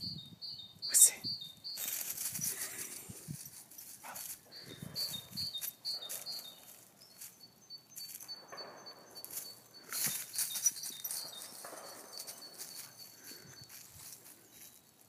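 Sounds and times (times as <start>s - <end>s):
faint high chirping: 0.0s - 15.0s
dog paws scuffling: 1.8s - 15.0s.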